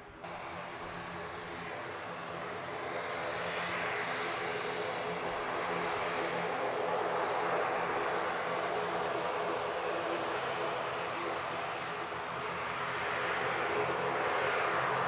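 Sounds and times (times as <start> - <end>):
distant jet engines rushing: 0.0 - 15.0.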